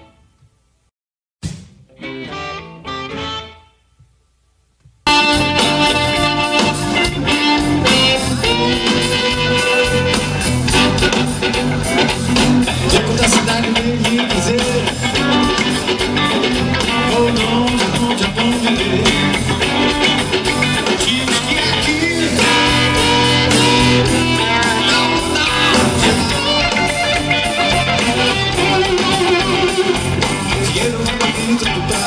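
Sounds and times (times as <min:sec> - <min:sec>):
live blues band playing: 0:01.9 - 0:03.8, 0:05.1 - 0:32.0.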